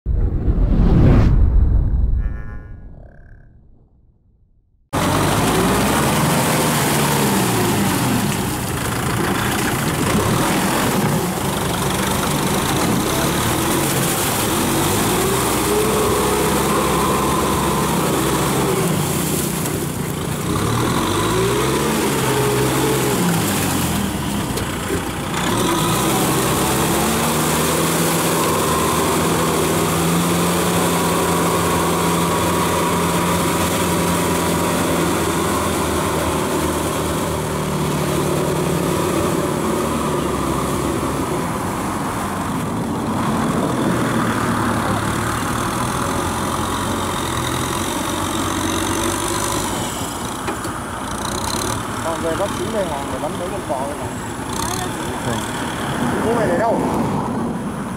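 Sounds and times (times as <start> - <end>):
tractor diesel engine under load: 5.0 - 57.9.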